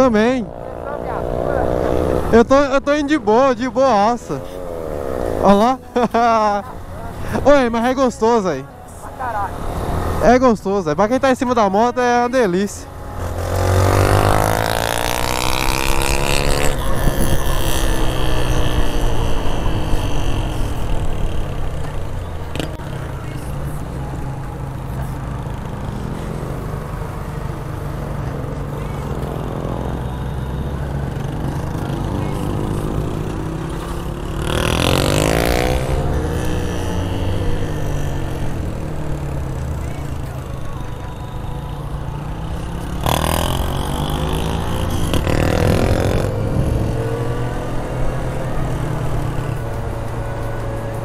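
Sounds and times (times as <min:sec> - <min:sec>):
motorcycle engine revving: 0:00.0 - 0:08.4, 0:13.0 - 0:51.0.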